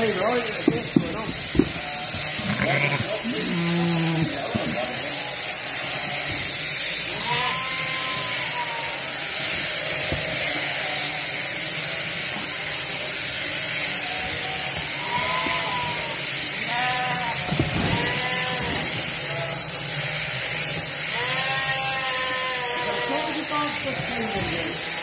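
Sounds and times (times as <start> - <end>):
sheep shearing machine running: 0.0 - 25.0
sheep bleating: 1.7 - 12.8, 13.6 - 19.8, 20.5 - 25.0.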